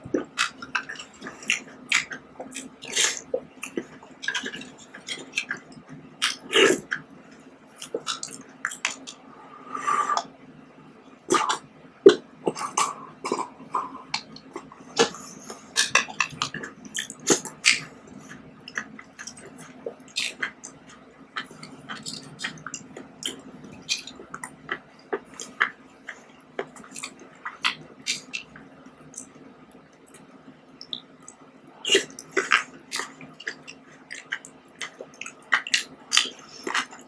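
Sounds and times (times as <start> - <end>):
faint steady hum: 0.0 - 37.0
squishy chewing sounds: 0.1 - 7.0, 7.8 - 9.2, 11.3 - 37.0.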